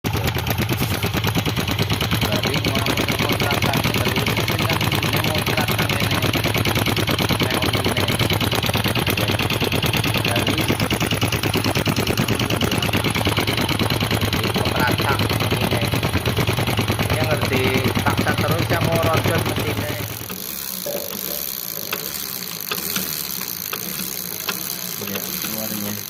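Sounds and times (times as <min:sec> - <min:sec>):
engine running with clatter: 0:00.0 - 0:26.0.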